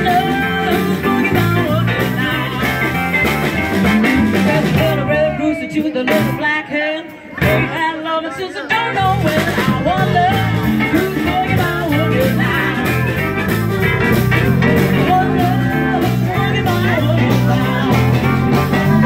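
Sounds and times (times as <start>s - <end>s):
bass line: 0.0s - 19.0s
person singing: 0.0s - 19.0s
upbeat dance band: 0.0s - 19.0s.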